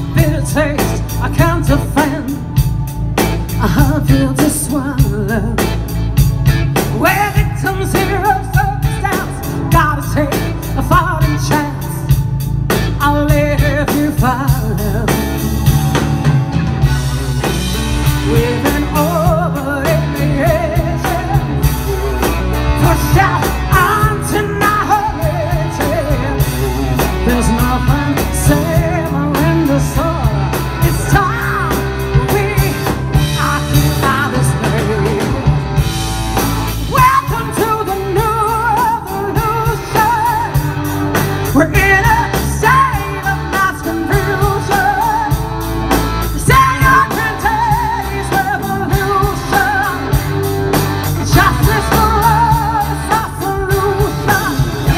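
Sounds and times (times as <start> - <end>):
drum kit: 0.0 - 54.9
electric guitar: 0.0 - 54.9
woman singing lead: 0.0 - 54.9.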